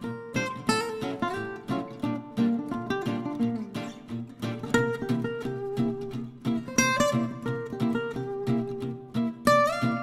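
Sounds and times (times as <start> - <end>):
acoustic guitar picked and strummed: 0.0 - 10.0.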